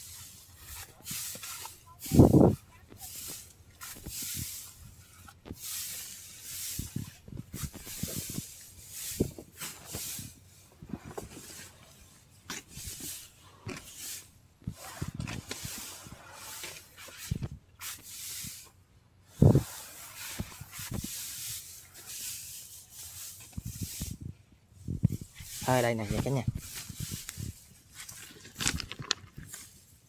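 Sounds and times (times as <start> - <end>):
straw rustling and crackling: 0.0 - 18.8, 19.4 - 30.0.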